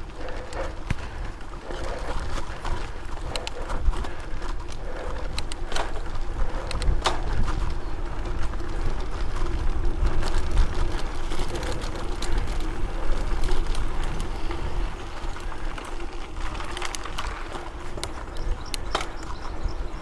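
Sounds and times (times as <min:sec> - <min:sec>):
bike clicks and rattles: 0:00.0 - 0:20.0
bike tyres and drivetrain hum: 0:00.0 - 0:20.0
wind buffeting microphone: 0:00.0 - 0:20.0.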